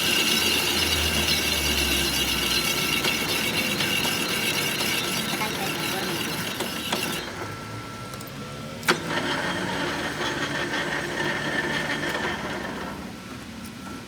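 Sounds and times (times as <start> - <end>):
machine running steadily: 0.0 - 14.0.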